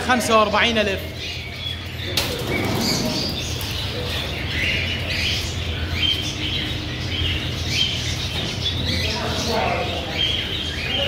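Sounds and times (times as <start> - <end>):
cockatiels chirping: 0.5 - 11.0.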